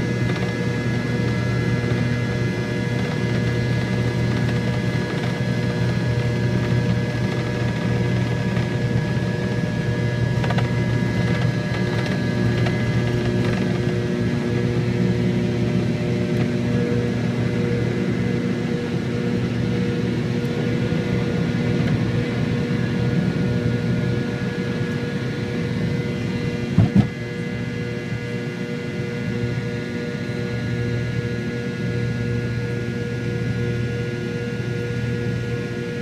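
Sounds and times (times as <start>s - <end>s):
steady whining tones: 0.0s - 31.0s
airliner cabin engine hum: 0.0s - 36.0s.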